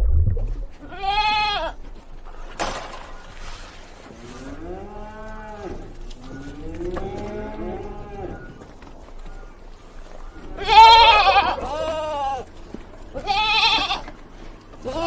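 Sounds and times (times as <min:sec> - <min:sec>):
farm animals bleating: 0:00.8 - 0:02.3, 0:04.0 - 0:15.0.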